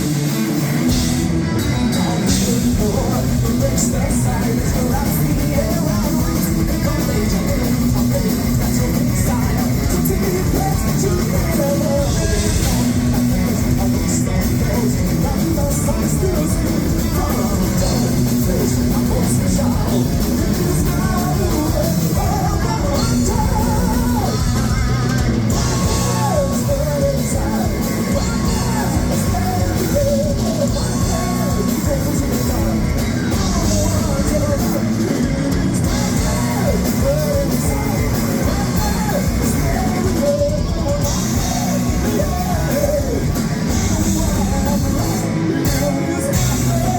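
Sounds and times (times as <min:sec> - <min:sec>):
bass guitar: 0:00.0 - 0:46.9
distorted electric guitars: 0:00.0 - 0:46.9
drum kit: 0:00.0 - 0:46.9
person singing and yelling: 0:00.0 - 0:46.9.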